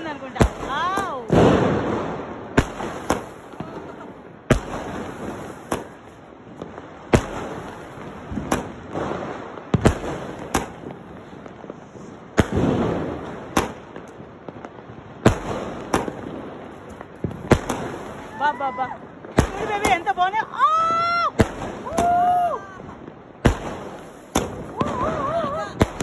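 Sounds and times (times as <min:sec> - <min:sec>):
fireworks bursting: 0:00.0 - 0:26.0
fireworks crackling hiss: 0:00.0 - 0:26.0.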